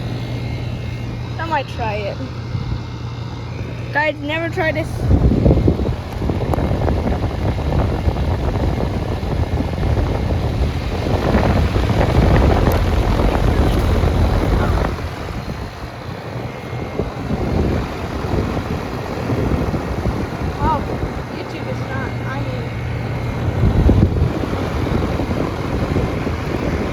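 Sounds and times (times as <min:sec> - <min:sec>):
air conditioner fan rushing: 0:00.0 - 0:26.9.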